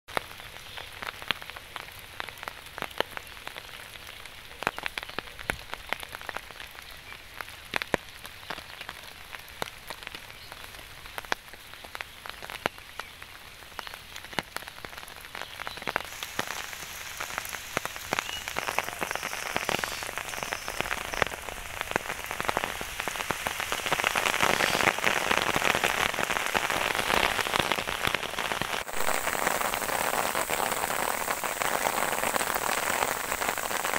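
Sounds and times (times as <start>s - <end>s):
large raindrops hitting: 0.1s - 33.9s
rain: 0.1s - 33.9s.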